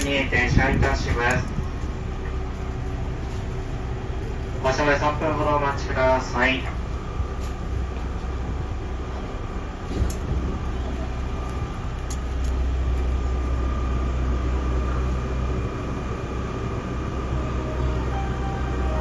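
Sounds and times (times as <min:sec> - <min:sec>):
train equipment low hum: 0:00.0 - 0:19.0.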